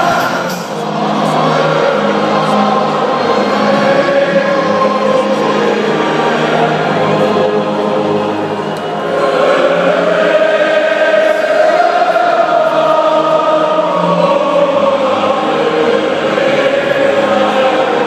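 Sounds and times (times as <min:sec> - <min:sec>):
stadium crowd singing: 0:00.0 - 0:18.0.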